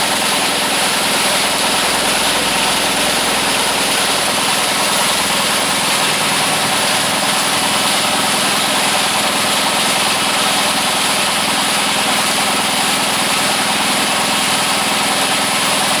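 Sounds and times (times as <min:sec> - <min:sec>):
motor running steadily: 0:00.0 - 0:16.0.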